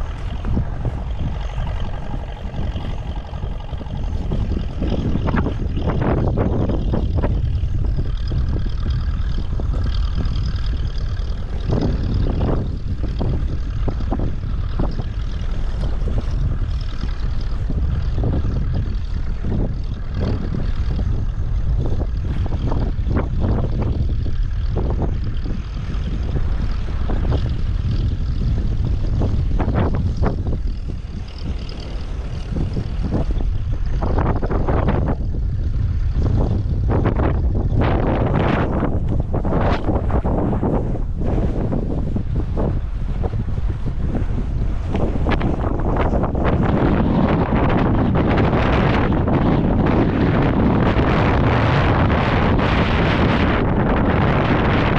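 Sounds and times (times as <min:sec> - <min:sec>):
wind buffeting the microphone: 0:00.0 - 0:54.9.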